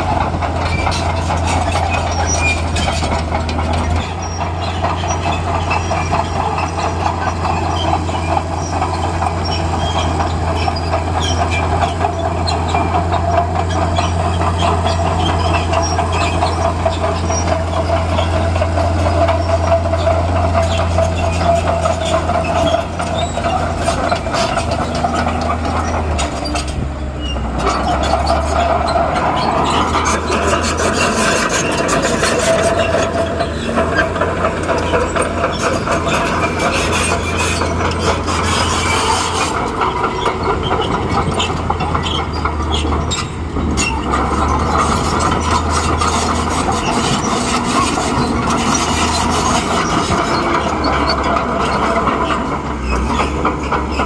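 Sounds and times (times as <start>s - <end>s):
bulldozer diesel engine: 0.0s - 54.0s
steel tracks clanking: 0.0s - 54.0s.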